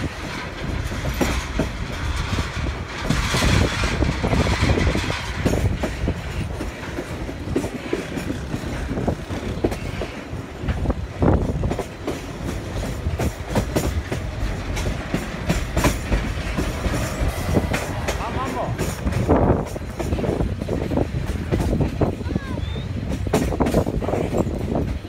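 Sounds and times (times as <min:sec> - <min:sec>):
train rumbling on track: 0:00.0 - 0:25.0
wheels clicking on rails: 0:00.0 - 0:25.0.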